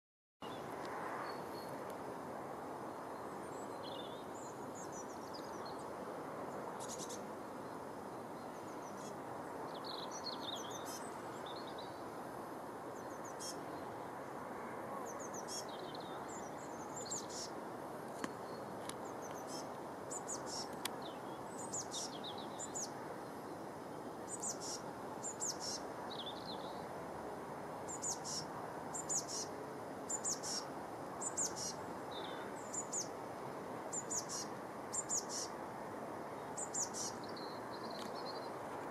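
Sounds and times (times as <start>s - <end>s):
songbirds chirping: 0.4s - 38.9s.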